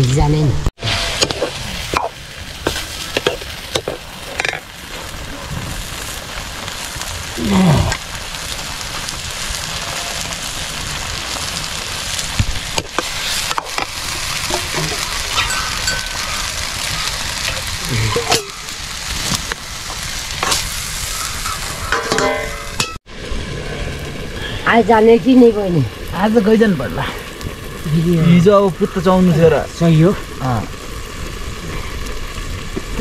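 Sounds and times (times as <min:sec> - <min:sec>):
potatoes sizzling in a wok: 0:00.8 - 0:33.0.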